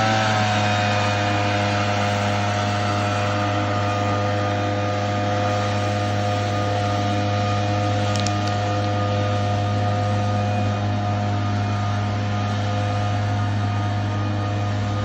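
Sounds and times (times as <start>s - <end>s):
small motor humming: 0.0s - 15.0s.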